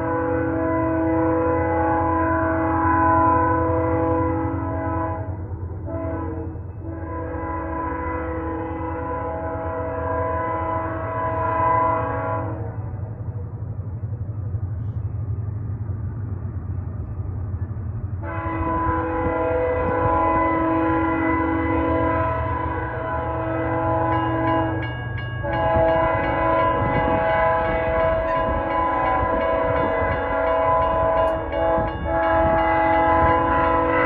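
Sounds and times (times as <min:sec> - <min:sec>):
locomotive air horn blasts: 0:00.0 - 0:12.8, 0:18.2 - 0:34.0.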